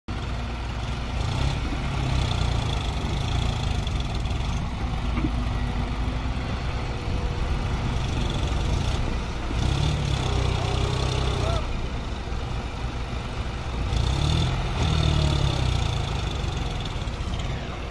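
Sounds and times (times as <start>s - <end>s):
excavator working: 0.1s - 17.9s
tractor idling: 0.1s - 17.9s.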